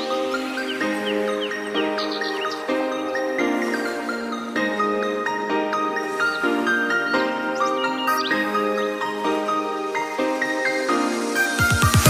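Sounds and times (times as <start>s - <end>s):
light melody over held chords: 0.0s - 12.0s.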